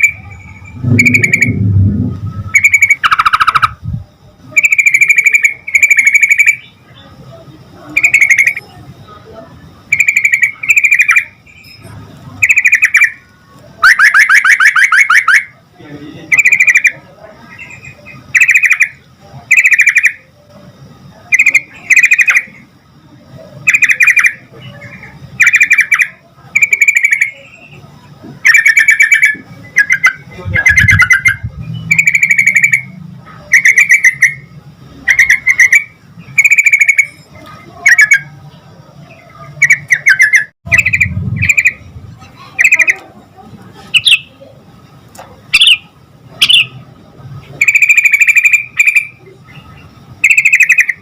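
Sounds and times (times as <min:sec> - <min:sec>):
bird singing bubbling phrases: 0:00.0 - 0:03.9, 0:04.5 - 0:07.2, 0:07.9 - 0:08.7, 0:09.8 - 0:11.8, 0:12.4 - 0:15.6, 0:16.3 - 0:20.3, 0:21.3 - 0:22.7, 0:23.6 - 0:38.4, 0:39.0 - 0:43.1, 0:43.9 - 0:44.4, 0:45.5 - 0:46.8, 0:47.6 - 0:51.0.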